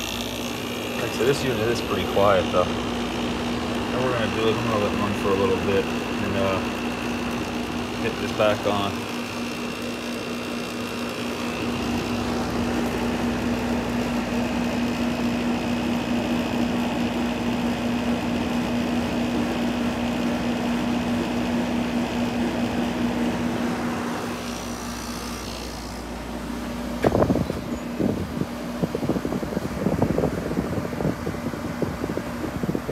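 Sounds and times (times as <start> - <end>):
window air conditioner humming: 0.0 - 32.9.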